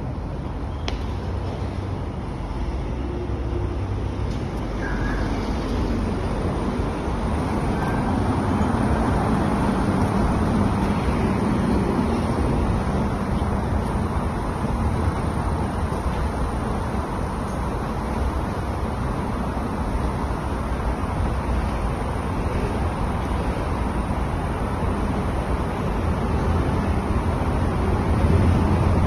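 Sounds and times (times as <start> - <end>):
distant road traffic rumble: 0.0 - 29.0.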